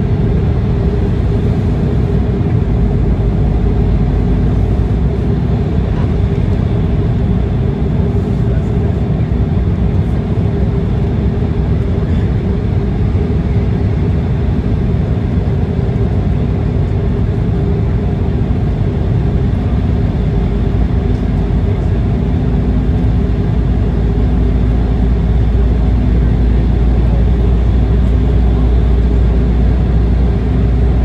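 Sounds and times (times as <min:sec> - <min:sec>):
airliner cabin rumble: 0:00.0 - 0:31.0
steady hums: 0:00.0 - 0:31.0.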